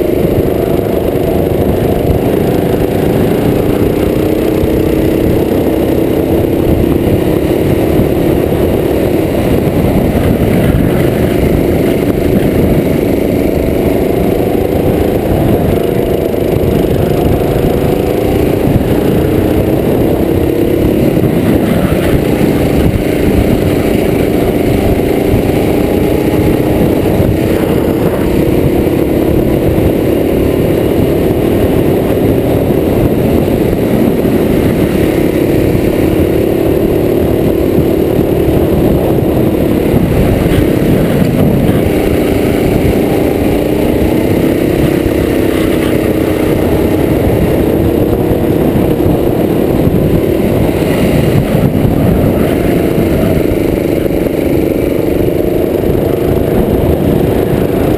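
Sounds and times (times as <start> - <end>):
kart engine revving: 0.0 - 57.9
steady rumble: 0.0 - 57.9.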